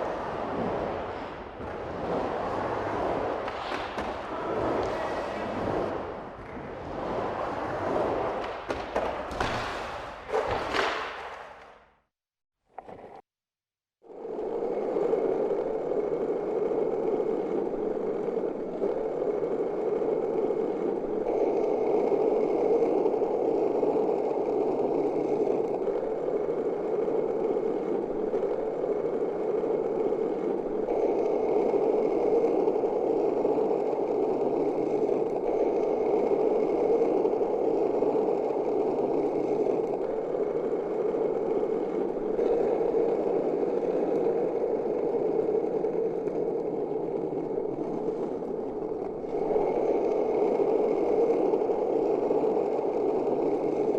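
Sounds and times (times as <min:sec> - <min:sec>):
skateboard wheels rolling on pavement: 0:00.0 - 0:12.1, 0:12.7 - 0:13.2, 0:14.0 - 0:53.9.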